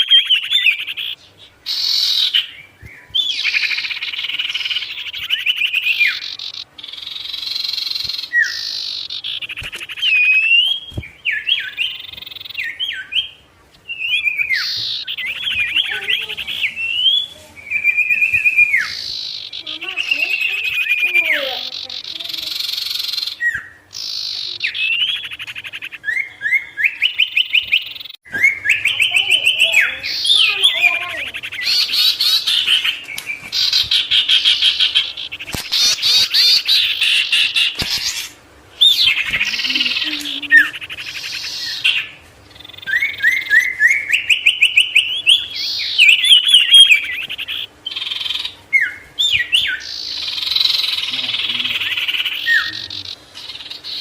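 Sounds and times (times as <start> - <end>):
songbird trilling song: 0.0 - 54.0.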